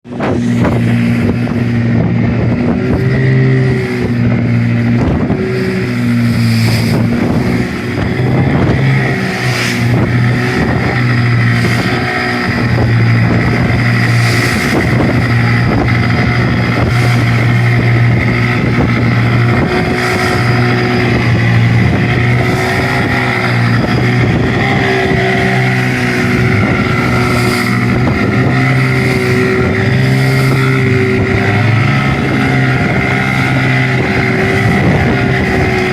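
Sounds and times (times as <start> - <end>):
boat engine running: 0.0 - 35.9
waves splashing against boat: 0.0 - 35.9.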